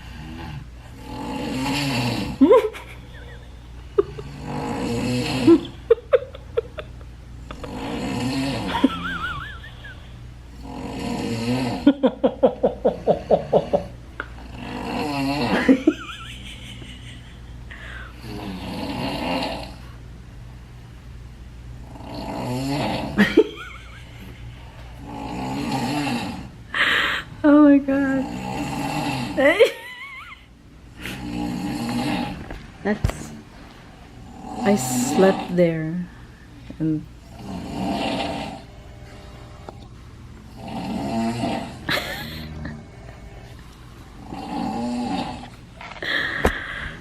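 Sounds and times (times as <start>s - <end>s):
people snoring: 0.0s - 6.7s, 7.4s - 17.0s, 17.7s - 20.0s, 21.8s - 23.6s, 24.8s - 27.2s, 27.8s - 29.8s, 30.9s - 33.4s, 34.0s - 35.9s, 37.2s - 47.0s.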